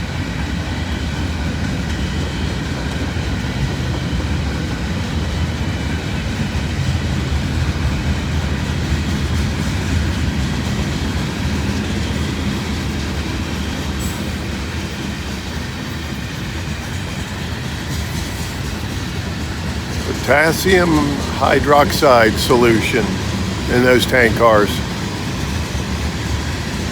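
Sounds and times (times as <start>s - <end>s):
freight train rolling on rails: 0.0s - 26.9s.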